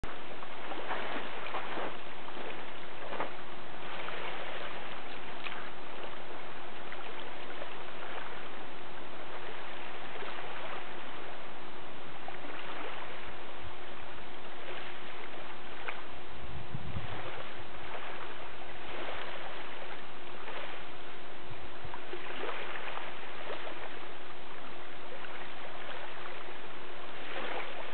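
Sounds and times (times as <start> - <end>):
faint steady hum: 0.0 - 27.9
small waves lapping on gravel: 0.0 - 27.9.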